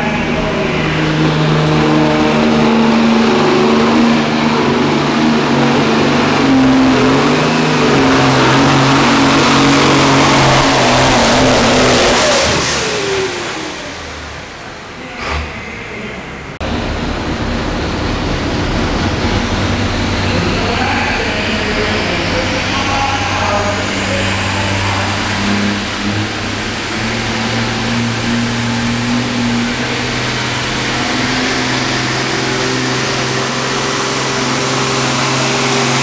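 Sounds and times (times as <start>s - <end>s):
tractor engine running hard: 0.0s - 15.7s, 16.4s - 36.0s
tractor engine starting up: 0.0s - 36.0s.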